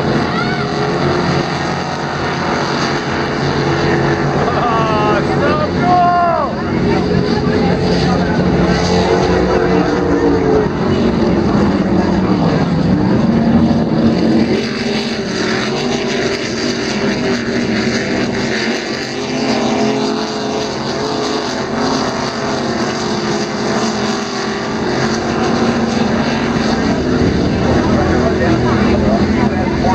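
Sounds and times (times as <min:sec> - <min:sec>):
racing powerboat engines: 0:00.0 - 0:29.9.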